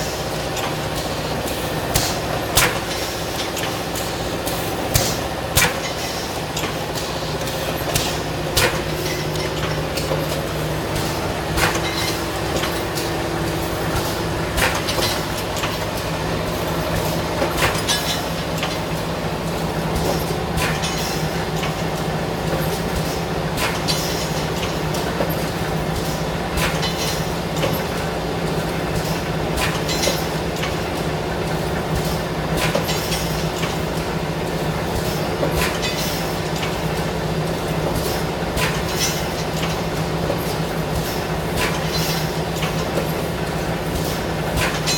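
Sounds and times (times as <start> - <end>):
machine clacking: 0.0 - 44.9.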